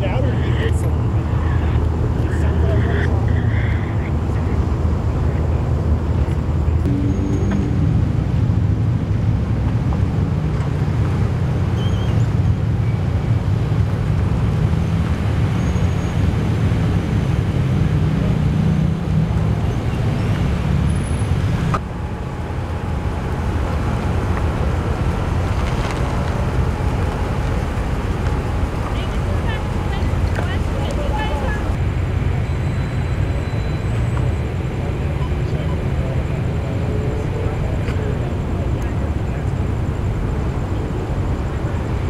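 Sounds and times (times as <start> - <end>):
vehicle engines rumbling: 0.0 - 42.0.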